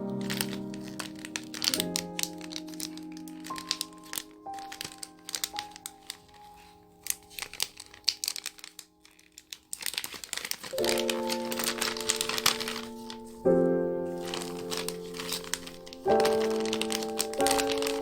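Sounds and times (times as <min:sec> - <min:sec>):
packaging crinkling: 0:00.0 - 0:18.0
soft piano music: 0:00.0 - 0:18.0.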